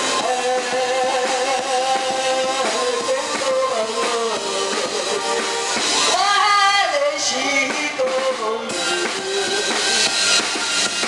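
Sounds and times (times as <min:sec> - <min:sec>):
woman singing through microphone: 0:00.0 - 0:10.5
drums: 0:00.0 - 0:11.0
keyboard: 0:00.0 - 0:11.0.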